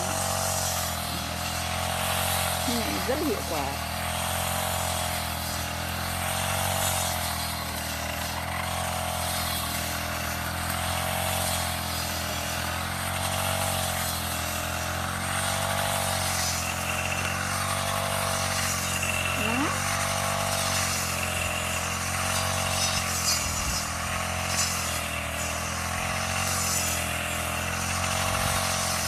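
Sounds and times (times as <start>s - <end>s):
brush cutter engine cutting grass: 0.0s - 29.0s.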